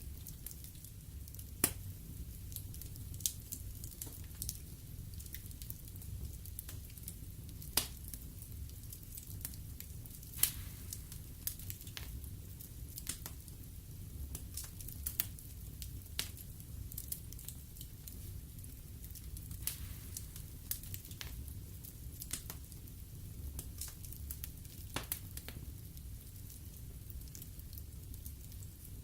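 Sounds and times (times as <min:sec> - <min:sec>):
fire crackling and popping: 0:00.0 - 0:29.0
fire low rumble: 0:00.0 - 0:29.0.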